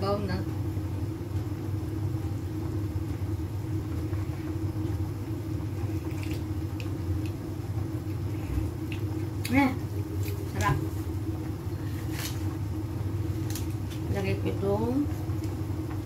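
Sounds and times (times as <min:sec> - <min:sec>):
soup boiling in a pot: 0:00.4 - 0:16.0.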